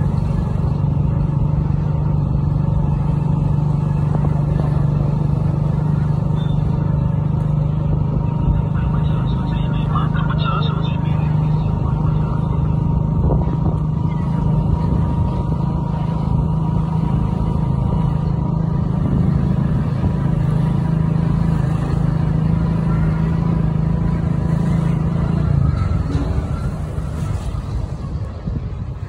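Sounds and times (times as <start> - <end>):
motorcycle engine cruising: 0.0 - 29.0.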